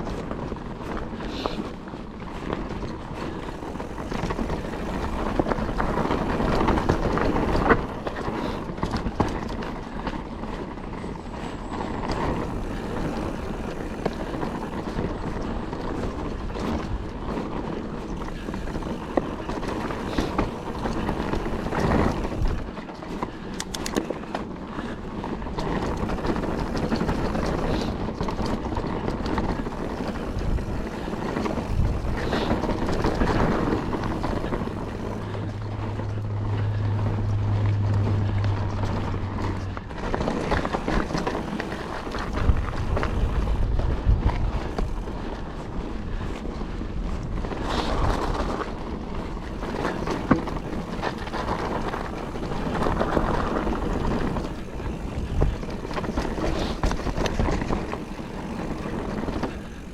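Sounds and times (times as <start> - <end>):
bike rattling over rough ground: 0.0 - 59.9
bike tyres rushing on trail: 0.0 - 59.9.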